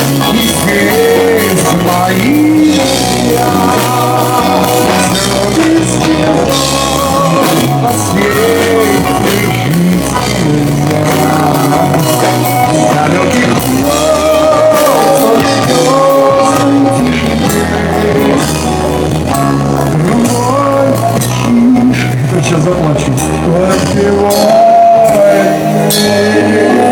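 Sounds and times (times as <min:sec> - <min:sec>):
bass line: 0:00.0 - 0:26.9
live pop-rock band playing: 0:00.0 - 0:26.9
person singing: 0:00.0 - 0:26.9.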